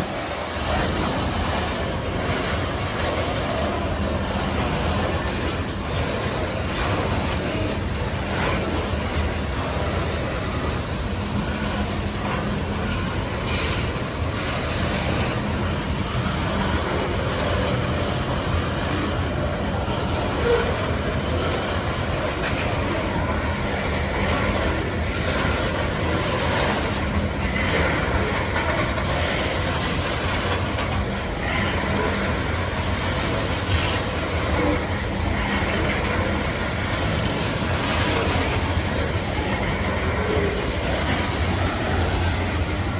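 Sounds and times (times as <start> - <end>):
train cars rumbling on rails: 0.0 - 42.9
wheels clicking over rail joints: 0.0 - 42.9.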